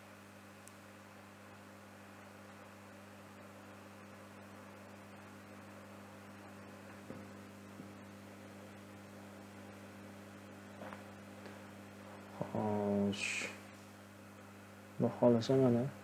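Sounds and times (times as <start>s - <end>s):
electrical mains hum: 0.0s - 16.0s
low hiss: 0.0s - 16.0s.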